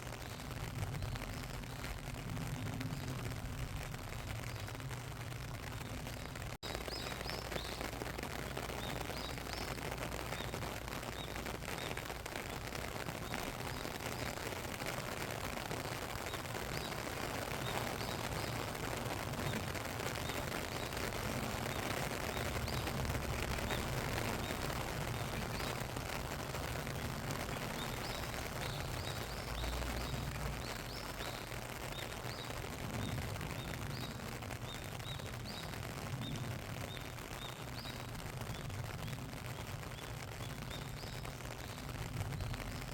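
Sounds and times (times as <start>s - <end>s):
steady rain falling: 0.0s - 42.9s
bird chirping: 5.7s - 42.9s.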